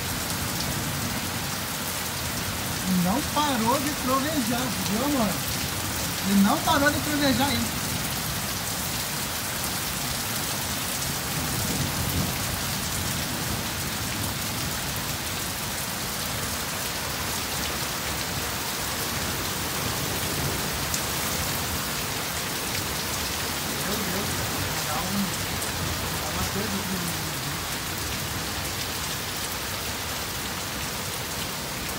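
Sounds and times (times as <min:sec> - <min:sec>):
heavy rain pouring off roof: 0:00.0 - 0:31.9.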